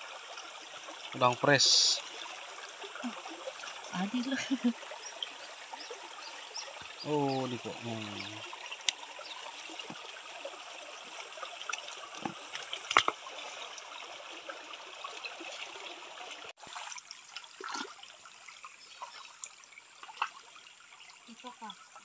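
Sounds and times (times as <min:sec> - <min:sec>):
stream trickling over stones: 0:00.0 - 0:22.0.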